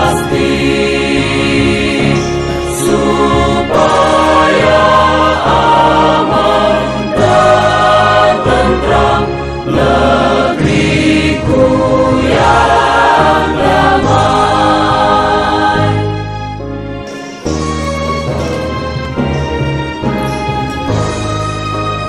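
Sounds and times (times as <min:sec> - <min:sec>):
choir singing with music: 0:00.0 - 0:22.0.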